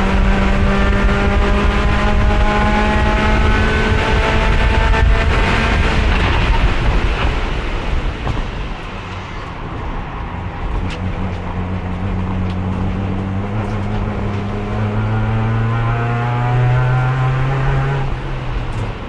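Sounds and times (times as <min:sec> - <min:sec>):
race car engine revving: 0:00.0 - 0:08.1, 0:10.4 - 0:19.0.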